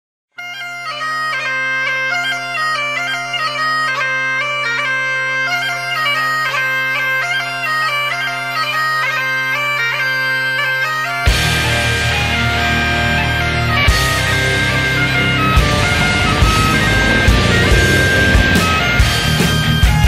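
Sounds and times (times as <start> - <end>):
bagpipes playing: 0.4 - 20.0.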